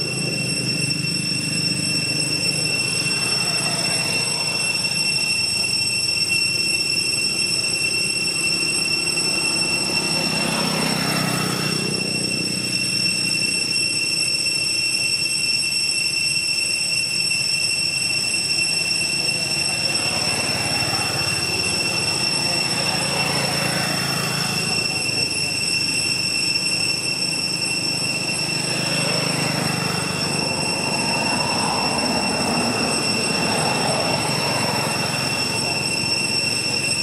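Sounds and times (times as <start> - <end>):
vehicle passing on road: 0.0 - 13.8, 18.8 - 37.0
high-pitched whine: 0.0 - 37.0
outdoor noise: 0.0 - 37.0.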